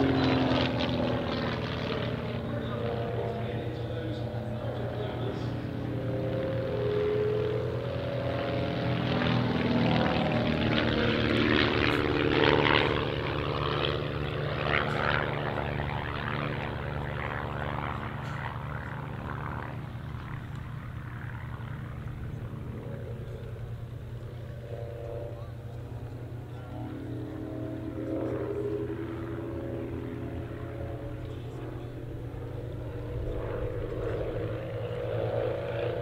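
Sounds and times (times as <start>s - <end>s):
propeller plane engine: 0.0s - 36.0s.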